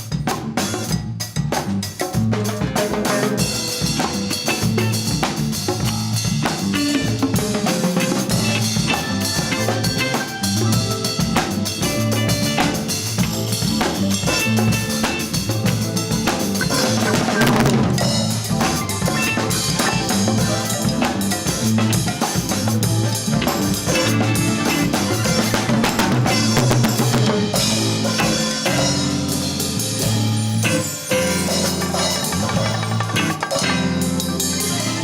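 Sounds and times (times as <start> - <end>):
drum kit with rimshots: 0.0 - 35.0
walking bass line: 2.2 - 35.0.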